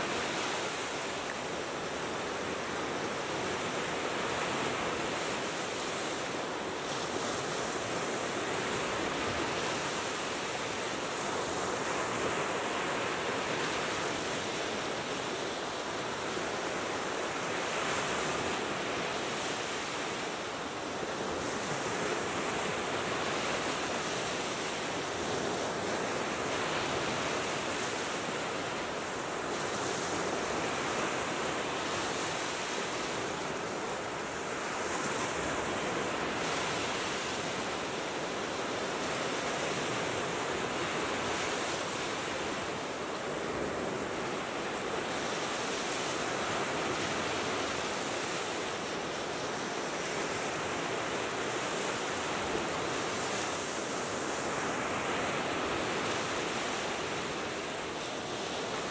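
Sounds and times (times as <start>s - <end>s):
waves breaking on sandy shore: 0.0s - 58.9s.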